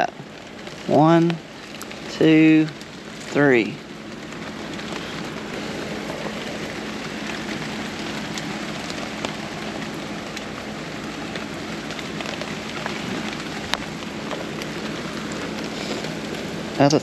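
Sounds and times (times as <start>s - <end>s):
sprinkler water pattering on leaves: 0.0s - 17.0s
steady low hum: 0.0s - 17.0s.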